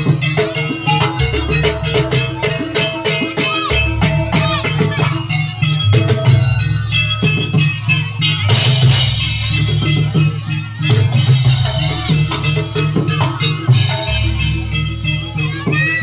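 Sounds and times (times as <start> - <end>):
rapid percussion with rattling: 0.0 - 16.0.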